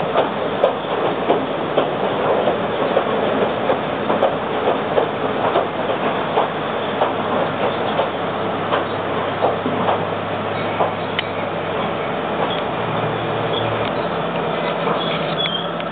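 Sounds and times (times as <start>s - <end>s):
rail joints clickety-clack: 0.0s - 15.9s
train wheels rumbling on rails: 0.0s - 15.9s.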